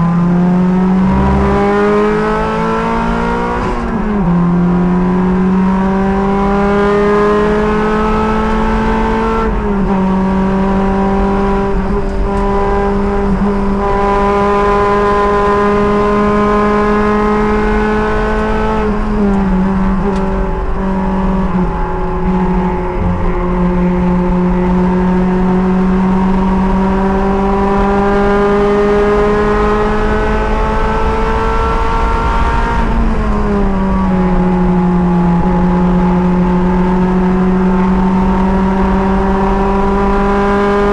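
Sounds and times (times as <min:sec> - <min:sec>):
race car engine at high revs: 0:00.0 - 0:40.9
wind and road noise rumble: 0:00.0 - 0:40.9.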